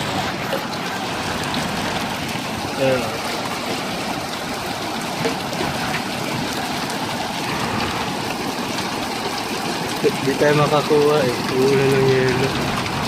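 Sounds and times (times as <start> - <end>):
hailstones ticking: 0.0 - 13.0
heavy rain hissing: 0.0 - 13.0.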